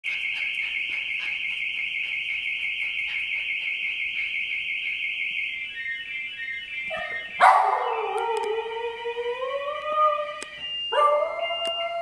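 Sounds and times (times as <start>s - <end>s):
car alarm siren warbling: 0.0s - 12.0s.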